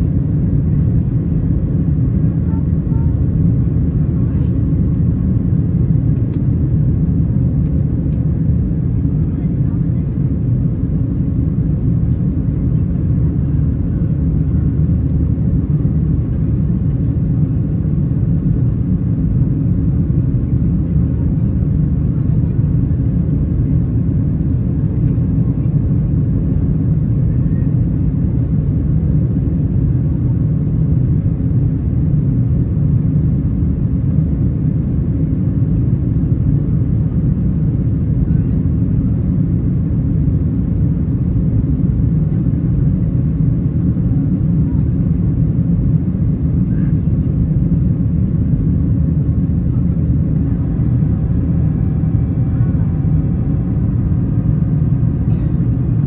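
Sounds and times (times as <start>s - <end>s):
airflow over fuselage: 0.0s - 56.0s
airplane cabin engine rumble: 0.0s - 56.0s.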